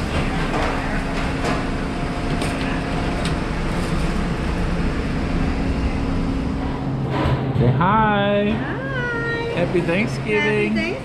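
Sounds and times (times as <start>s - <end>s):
kitchen exhaust and oven fans humming: 0.0s - 11.0s.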